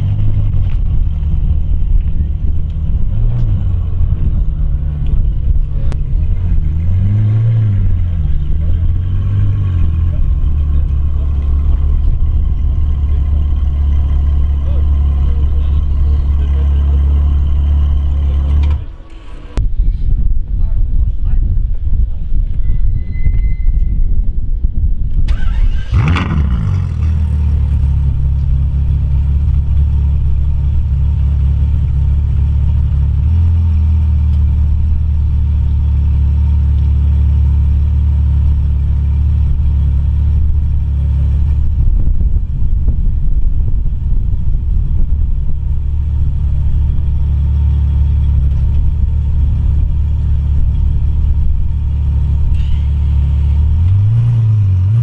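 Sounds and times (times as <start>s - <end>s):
car engine starting and idling: 0.0s - 19.7s, 25.1s - 55.0s.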